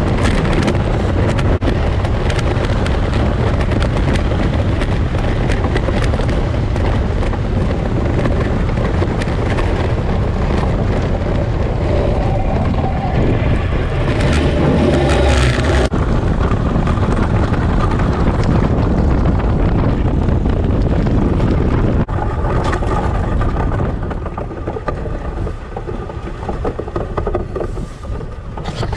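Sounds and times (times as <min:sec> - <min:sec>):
wind noise on microphone: 0:00.0 - 0:28.9.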